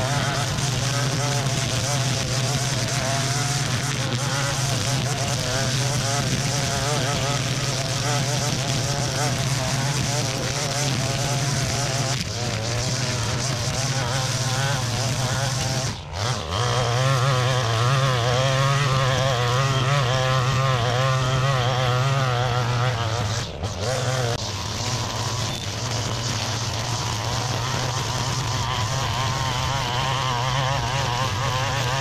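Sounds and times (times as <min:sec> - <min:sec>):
string trimmer cutting grass: 0:00.0 - 0:32.0.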